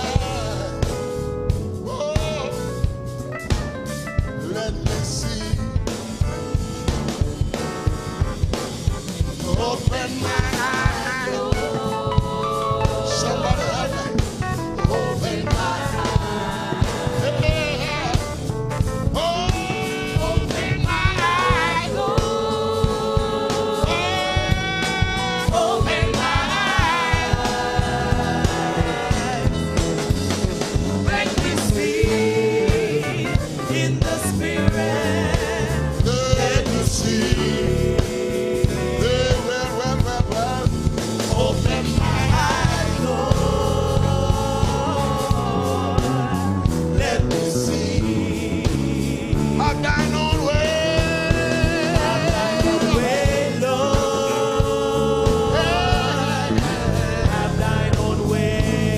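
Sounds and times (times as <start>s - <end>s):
gospel singing with band: 0.0s - 58.9s.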